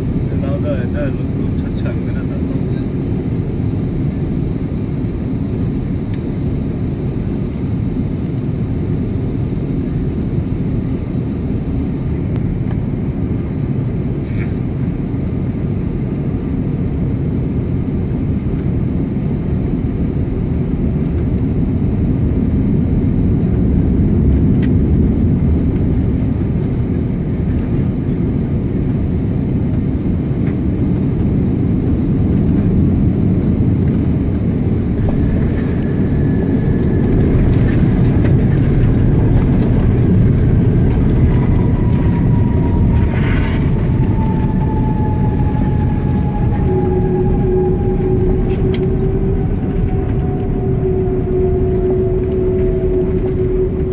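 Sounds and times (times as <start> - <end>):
airliner engine and airflow rumble: 0.0 - 53.9.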